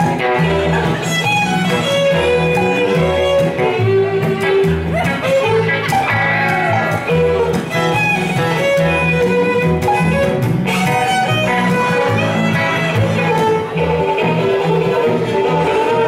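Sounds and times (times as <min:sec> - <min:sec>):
fiddle playing a tune: 0:00.0 - 0:16.0
low bass line: 0:00.0 - 0:16.0.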